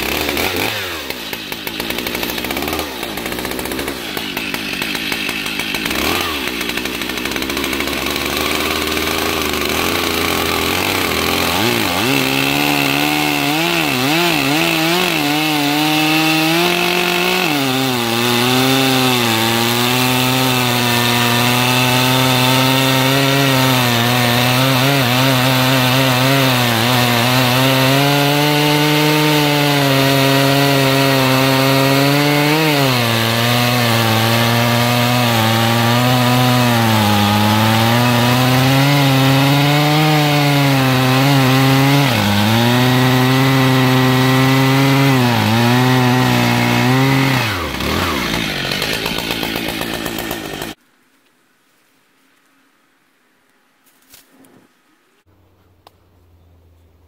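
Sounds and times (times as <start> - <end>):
chainsaw cutting log: 0.0 - 50.8.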